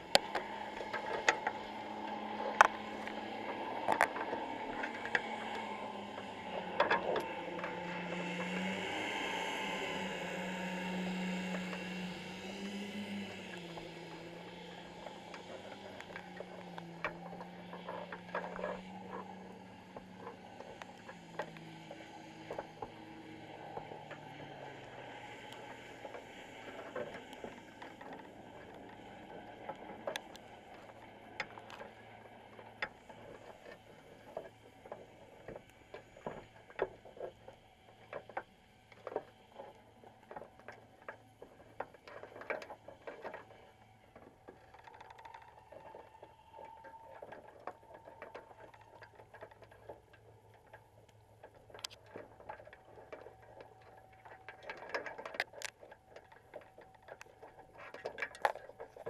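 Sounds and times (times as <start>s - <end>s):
crabs clicking on wire mesh underwater: 0.0s - 59.0s.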